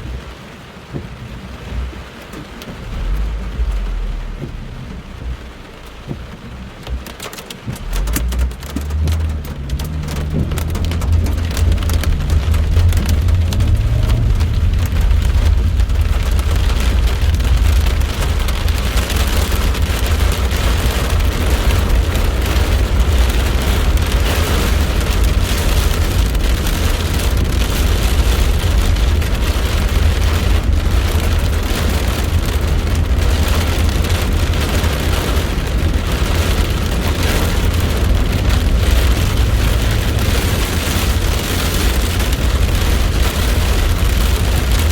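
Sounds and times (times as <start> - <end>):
heavy rain pattering: 0.0 - 44.9
deep low rumble: 1.0 - 44.9.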